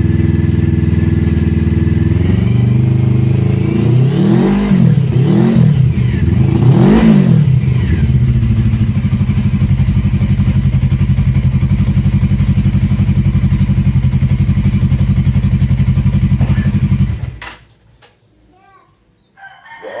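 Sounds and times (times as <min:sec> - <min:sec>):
motorcycle engine revving and idling: 0:00.0 - 0:17.6.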